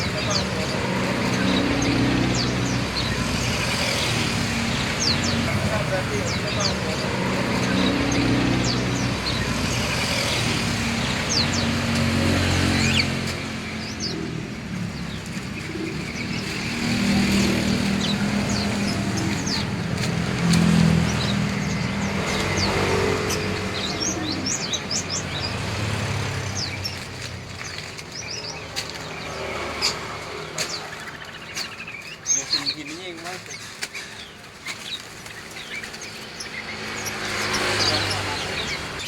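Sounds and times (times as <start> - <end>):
road traffic rumble: 0.0 - 39.0
songbirds chirping: 0.0 - 39.0.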